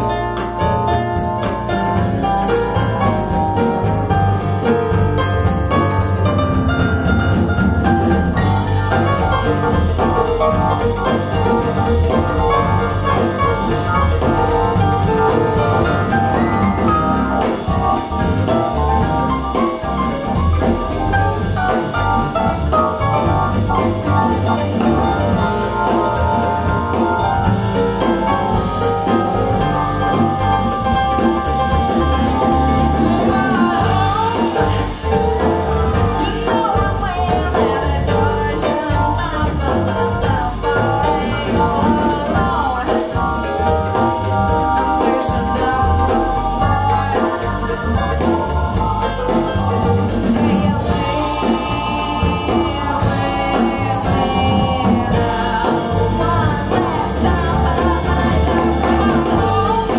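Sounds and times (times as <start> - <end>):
piano and drums music: 0.0 - 59.9.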